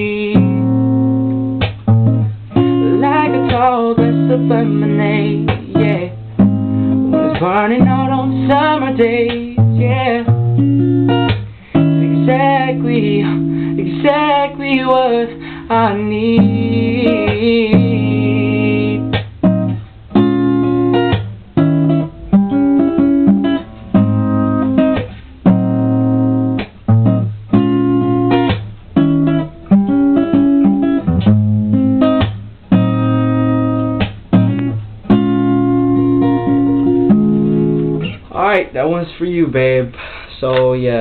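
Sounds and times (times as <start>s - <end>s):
acoustic guitar strumming chords: 0.0s - 41.0s.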